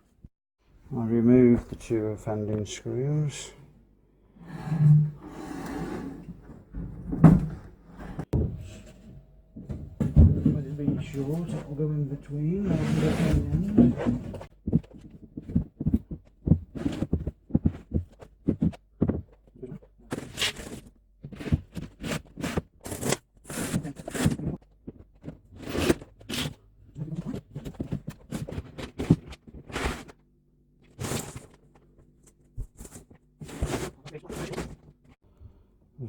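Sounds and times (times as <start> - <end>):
knocks and scrapes of wood and tools: 4.4 - 26.6, 27.2 - 30.2, 31.0 - 35.2.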